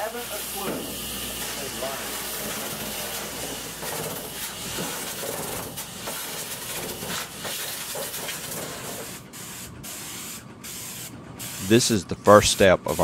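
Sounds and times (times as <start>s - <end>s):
hiss of pressurised spray equipment: 0.1s - 11.8s.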